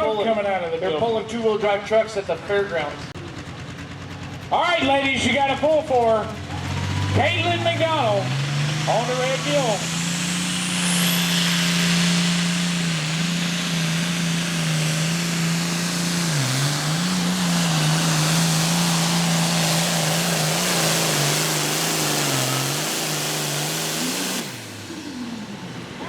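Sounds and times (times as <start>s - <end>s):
truck engine running flat out: 0.0s - 26.0s.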